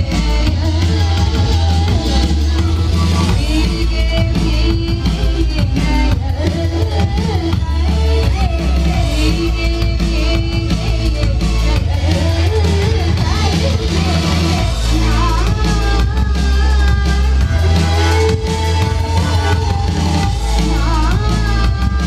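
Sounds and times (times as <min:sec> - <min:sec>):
live drum and bass music: 0:00.0 - 0:22.0.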